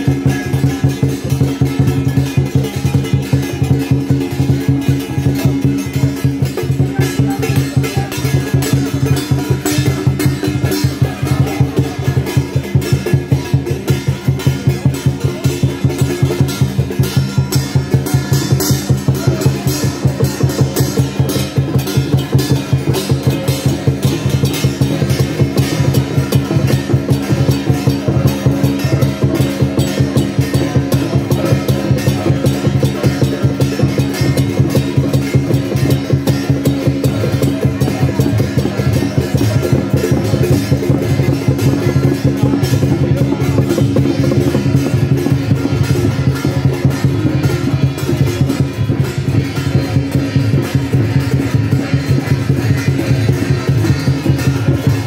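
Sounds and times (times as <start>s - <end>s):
music with fast steady drumming: 0.0s - 55.0s.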